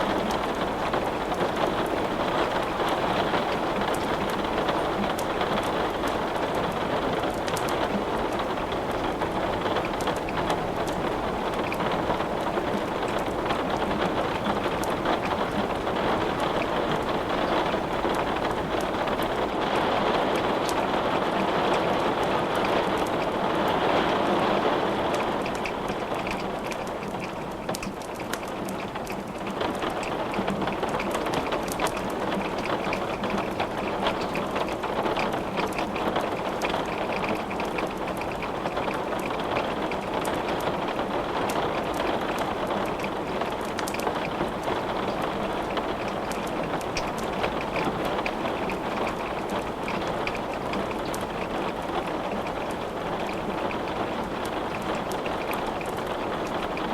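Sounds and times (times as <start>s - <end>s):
rain hiss: 0.0s - 56.9s
wood crackling in fireplace: 0.0s - 56.9s.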